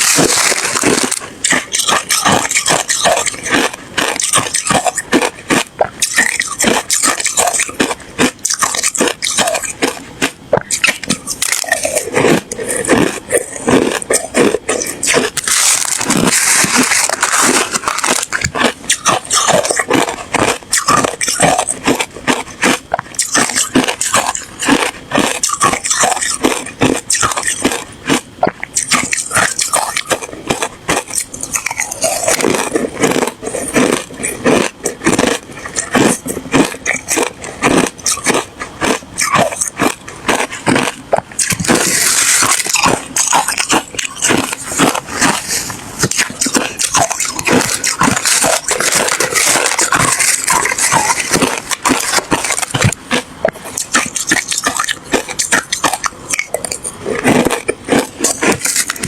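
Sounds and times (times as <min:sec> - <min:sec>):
person crunching ice: 0:00.0 - 0:59.0.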